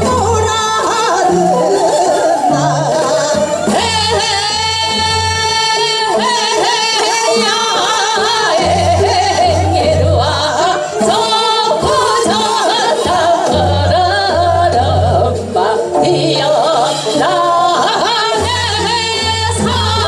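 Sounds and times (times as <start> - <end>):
women singing with vibrato: 0.0 - 20.0.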